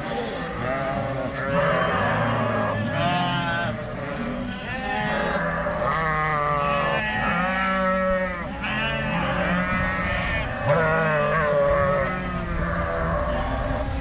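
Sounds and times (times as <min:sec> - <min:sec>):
sheep bleating: 0:00.0 - 0:13.8.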